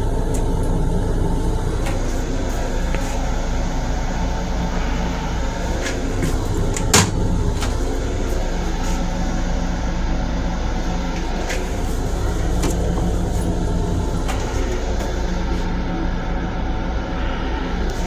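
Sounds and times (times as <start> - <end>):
low hum of train car: 0.0 - 18.0.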